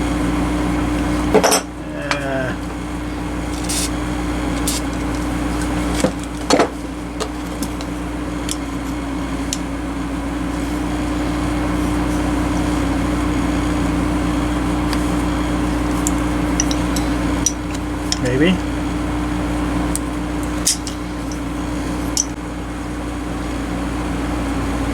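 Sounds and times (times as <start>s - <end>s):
fan or motor humming: 0.0s - 24.9s.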